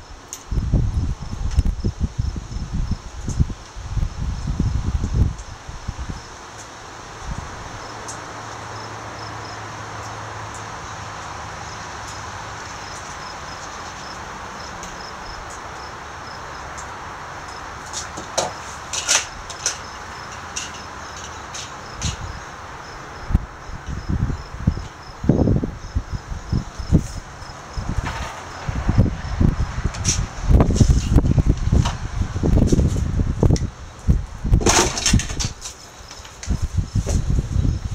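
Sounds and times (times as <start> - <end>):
insects chirping: 0.0 - 37.9
outdoor background hiss: 0.0 - 37.9.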